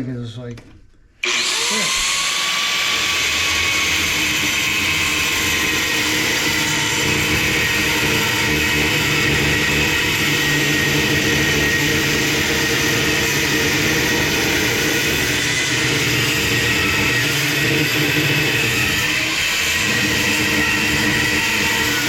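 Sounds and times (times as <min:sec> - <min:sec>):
angle grinder cutting steel: 0:01.2 - 0:22.0.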